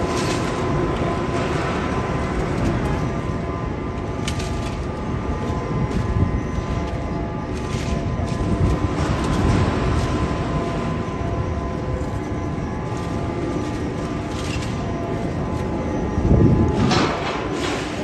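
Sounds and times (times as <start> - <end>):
heavy machinery rumbling: 0.0 - 18.0.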